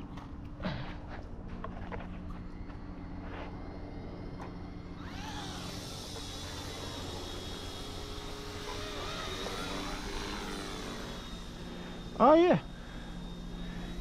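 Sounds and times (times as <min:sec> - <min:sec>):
low hum: 0:00.0 - 0:14.0
model helicopter rotor whine: 0:02.4 - 0:14.0.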